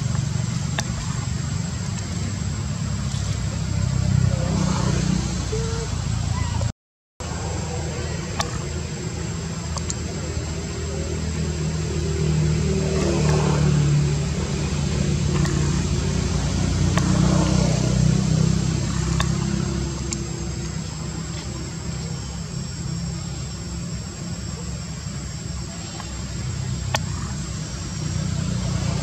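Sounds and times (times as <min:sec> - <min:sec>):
motor engine running: 0:00.0 - 0:29.0.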